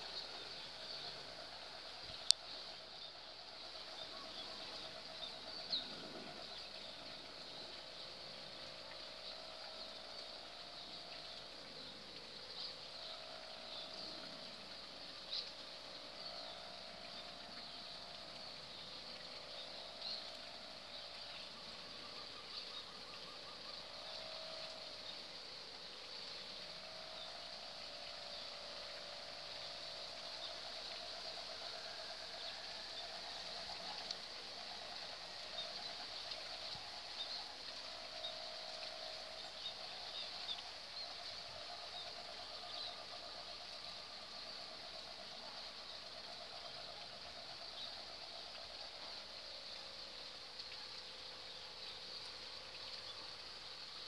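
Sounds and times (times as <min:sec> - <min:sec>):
kite hummer bow drone: 0:00.0 - 0:54.0.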